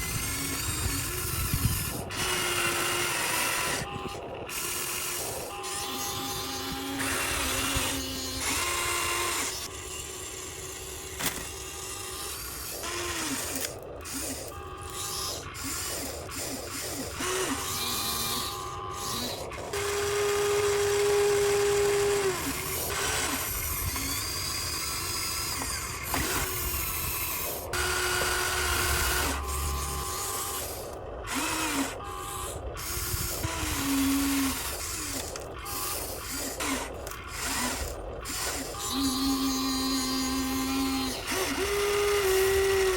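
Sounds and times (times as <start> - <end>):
electric gear motors whining: 0.0 - 42.9.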